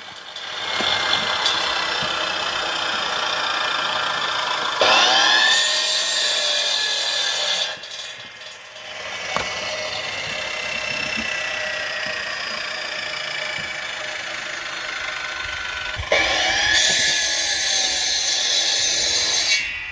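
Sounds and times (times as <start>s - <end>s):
chainsaw cutting firewood: 0.0s - 19.9s.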